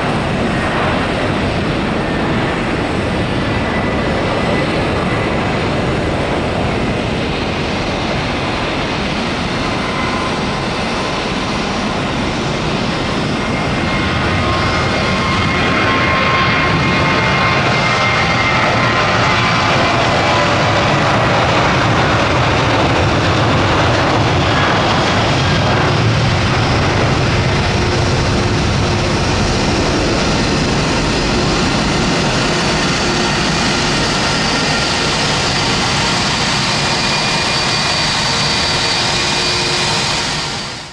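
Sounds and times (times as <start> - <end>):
jet engines at takeoff thrust: 0.0 - 40.9.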